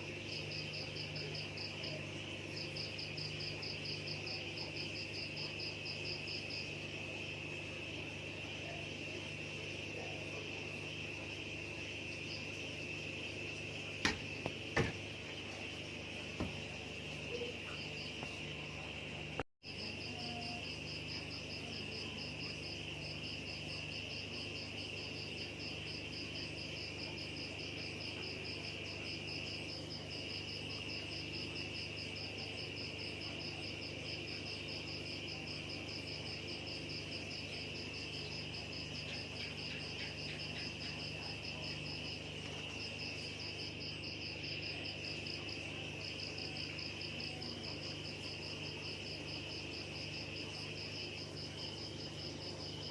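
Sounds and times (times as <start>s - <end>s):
crickets chirring: 0.0s - 52.9s
fast pulsing insect trill: 0.0s - 52.9s.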